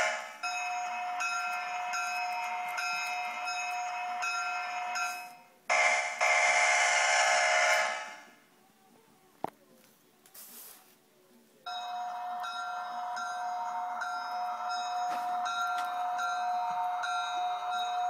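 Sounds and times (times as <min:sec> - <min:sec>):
locomotive bell ringing: 0:00.0 - 0:08.3, 0:11.7 - 0:18.0.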